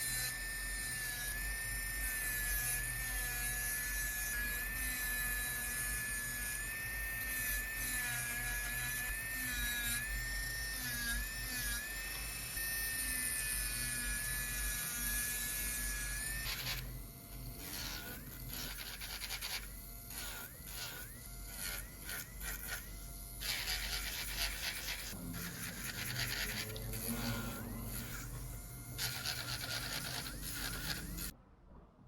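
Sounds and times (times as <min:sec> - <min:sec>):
electric nail drill grinding: 0:00.0 - 0:31.3.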